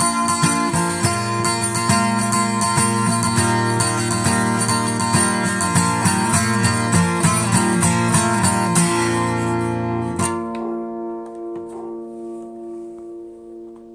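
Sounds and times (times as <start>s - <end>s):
guitar chord ringing: 0.0s - 13.9s
guitar picked rhythm: 0.0s - 13.9s.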